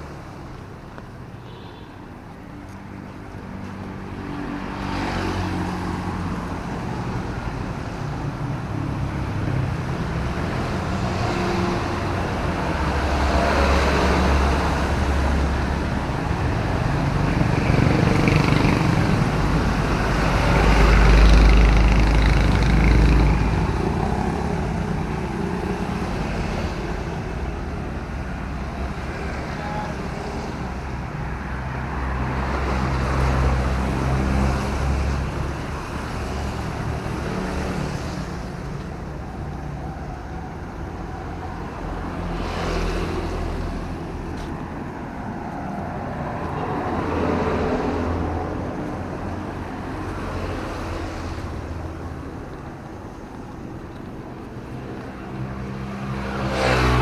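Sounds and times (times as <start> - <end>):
engine rumble: 2.0 - 57.0.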